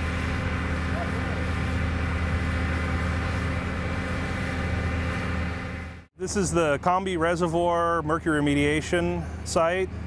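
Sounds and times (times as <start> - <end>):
large engine running: 0.0 - 10.0.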